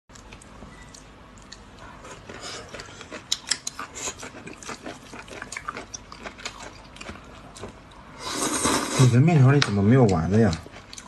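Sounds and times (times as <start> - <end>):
wet chewing and slurping: 0.8 - 11.0.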